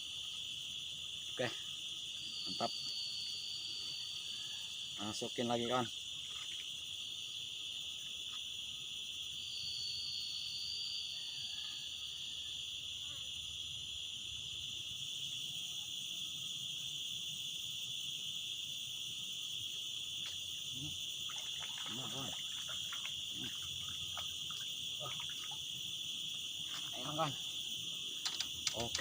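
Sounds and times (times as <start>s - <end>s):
insects chorus: 0.0s - 29.0s.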